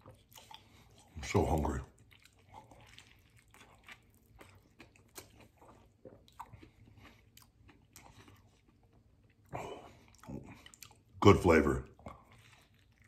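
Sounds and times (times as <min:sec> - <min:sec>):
person chewing food: 0:00.0 - 0:11.2, 0:11.8 - 0:13.0.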